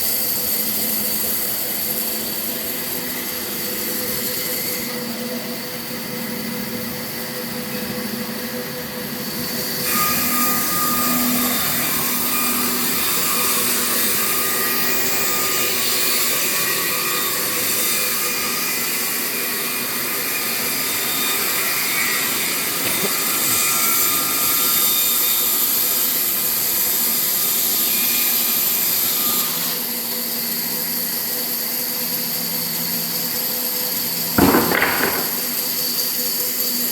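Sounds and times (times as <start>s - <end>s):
sawmill saw cutting wood: 0.0s - 36.9s.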